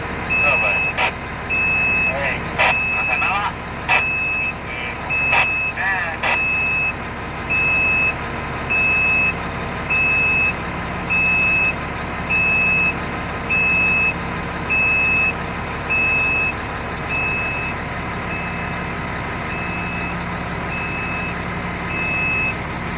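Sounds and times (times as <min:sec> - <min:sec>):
low engine drone: 0:00.0 - 0:22.9
electronic warning beeps: 0:00.3 - 0:22.6.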